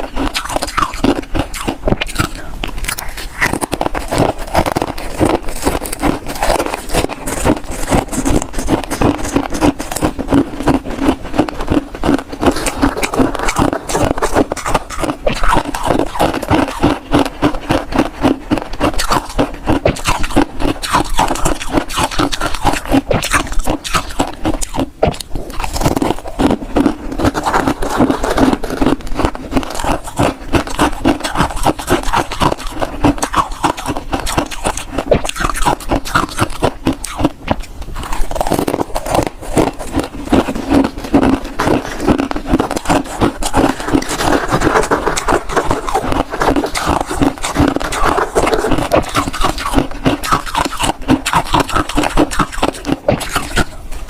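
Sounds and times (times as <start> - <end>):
frost being crunched and chewed: 0.0 - 54.0.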